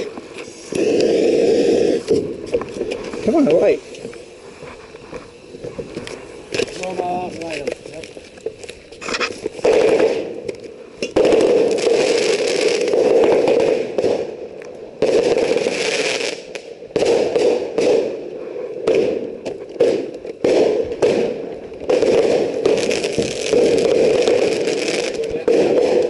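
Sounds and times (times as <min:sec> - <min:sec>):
firework hissing and crackling: 0:00.0 - 0:26.0.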